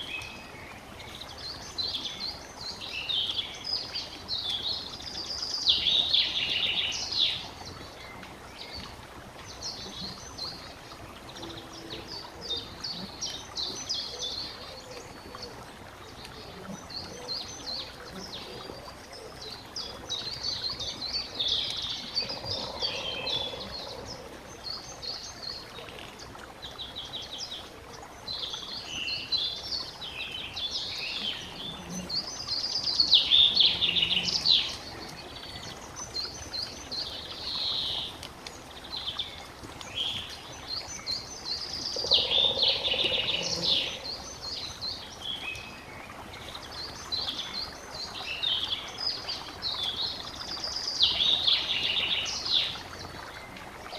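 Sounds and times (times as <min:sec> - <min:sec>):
songbirds singing and trilling: 0:00.0 - 0:53.9.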